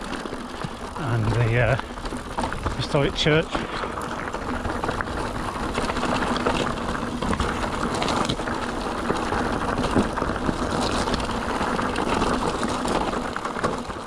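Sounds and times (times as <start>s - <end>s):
bike rattling and clicking: 0.0s - 14.0s
tyre and wind noise: 0.0s - 14.0s.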